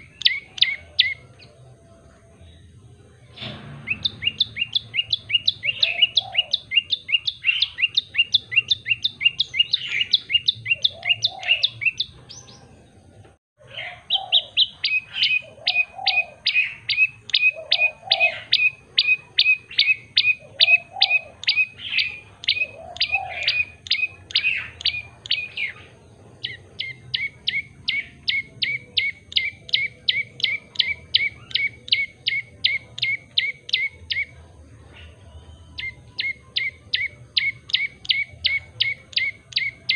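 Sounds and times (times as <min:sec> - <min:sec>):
bird chip notes: 0:02.4 - 0:13.2, 0:13.8 - 0:39.9.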